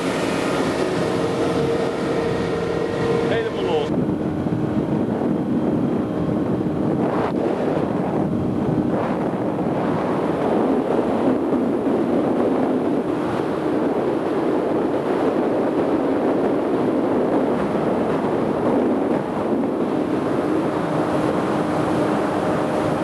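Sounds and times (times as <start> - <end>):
motorboat engine: 0.0 - 23.0
water rushing past hull: 0.0 - 23.0
wind buffeting microphone: 0.0 - 23.0.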